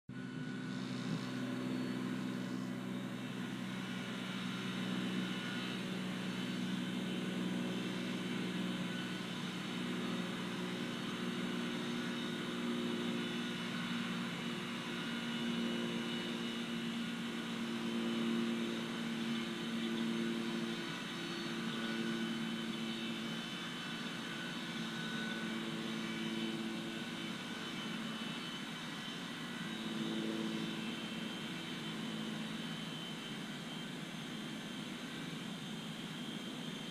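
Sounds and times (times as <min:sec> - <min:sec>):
low engine drone: 0:00.1 - 0:36.9.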